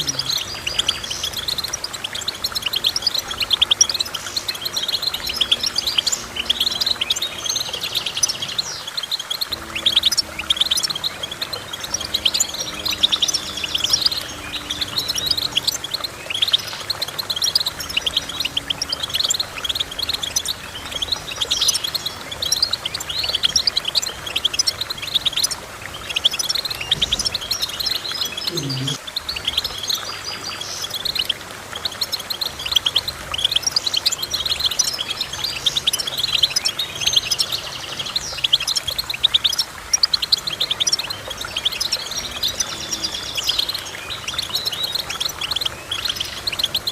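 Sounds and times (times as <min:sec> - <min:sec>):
goldfinch twittering: 0:00.0 - 0:46.9.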